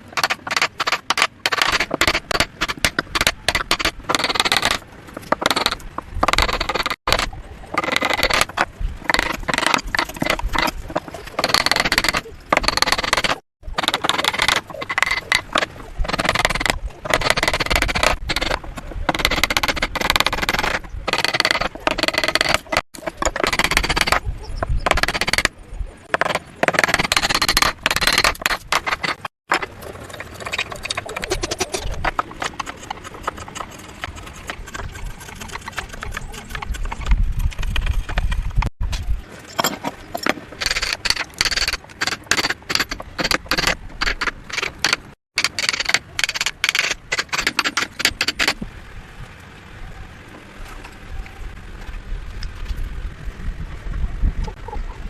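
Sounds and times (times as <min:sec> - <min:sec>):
hand tools knocking and scraping wood: 0:00.0 - 0:25.5, 0:26.1 - 0:29.8, 0:30.5 - 0:38.7, 0:39.4 - 0:48.6.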